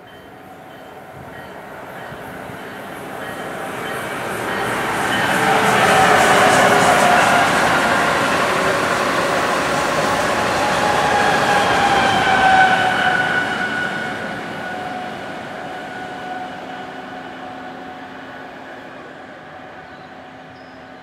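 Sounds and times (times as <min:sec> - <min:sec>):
rush of train wheels and air: 0:00.0 - 0:21.0.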